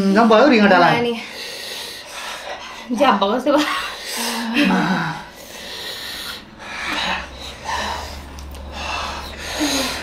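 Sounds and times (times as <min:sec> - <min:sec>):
people breathing hard and hissing: 0:01.0 - 0:10.0.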